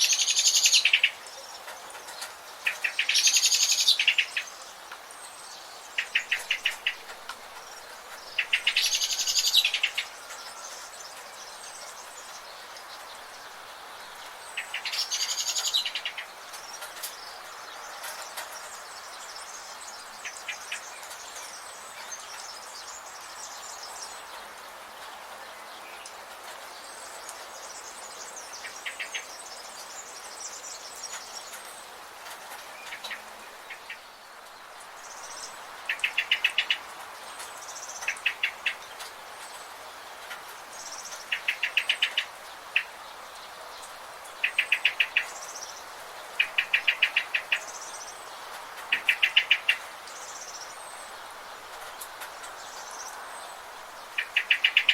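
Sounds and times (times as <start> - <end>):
steady background hiss: 0.0 - 54.9.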